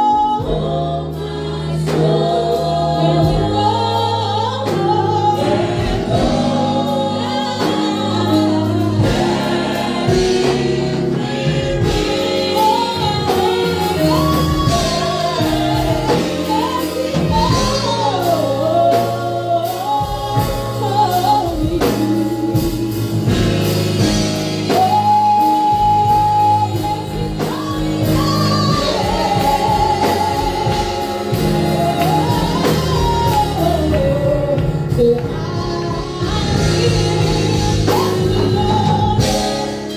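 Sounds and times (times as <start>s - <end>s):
band with bass keyboard drums: 0.0s - 39.9s.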